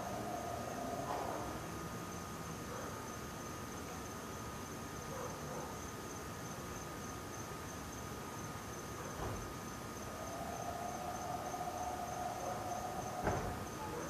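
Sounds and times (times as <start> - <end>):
insects trilling: 0.0 - 14.0
low drawn-out insect tone: 0.0 - 14.0.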